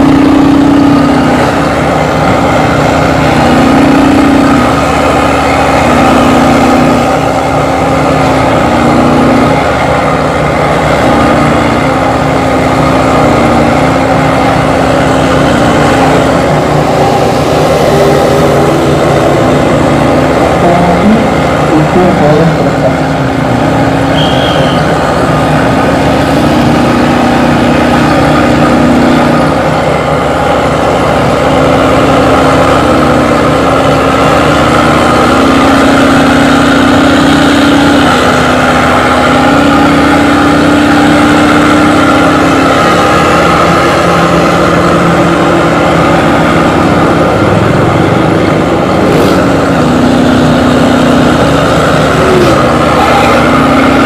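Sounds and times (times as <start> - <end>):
bus engine droning through exhaust: 0.0 - 54.0.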